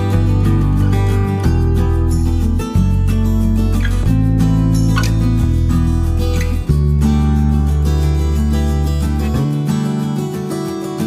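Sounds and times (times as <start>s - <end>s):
guitar background music: 0.0s - 11.0s.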